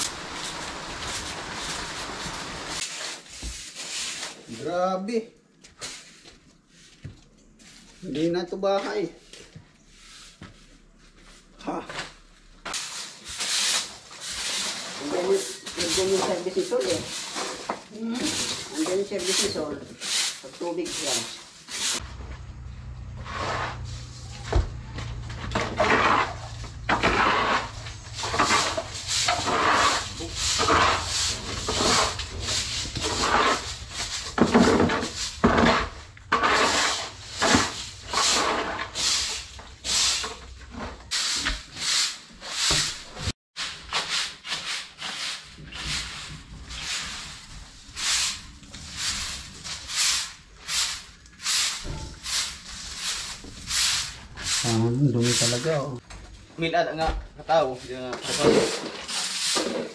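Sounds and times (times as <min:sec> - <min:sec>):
broom sweeping concrete floor: 0:00.0 - 0:56.0, 0:56.9 - 0:59.9.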